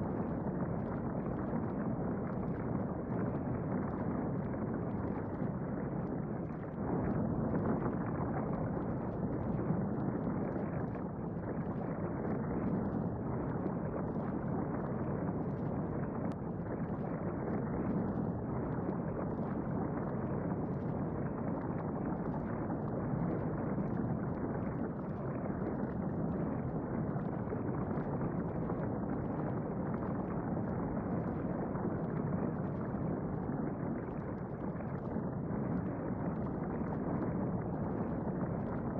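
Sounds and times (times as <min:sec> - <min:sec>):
low volcanic rumble: 0:00.0 - 0:38.9.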